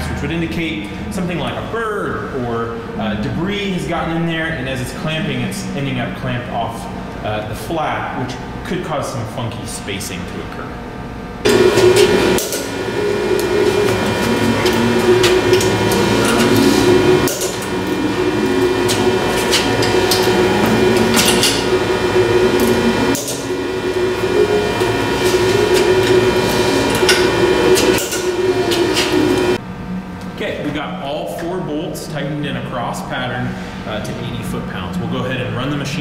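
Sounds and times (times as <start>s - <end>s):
steady machine hum: 0.0s - 36.0s.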